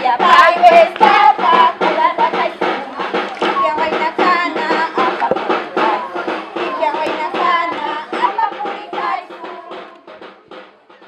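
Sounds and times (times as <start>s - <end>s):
music with percussive beat: 0.0s - 11.0s.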